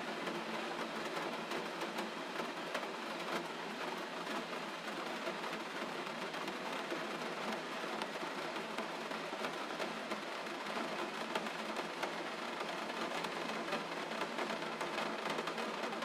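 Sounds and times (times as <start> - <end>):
gentle rain falling: 0.0 - 16.0.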